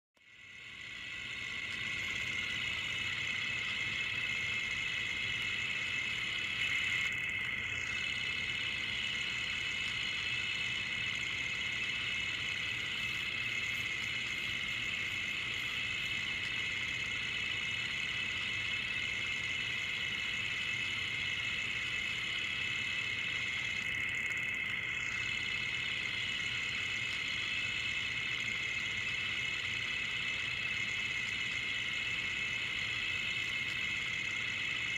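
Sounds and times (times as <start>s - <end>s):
film projector clattering: 0.4s - 34.9s.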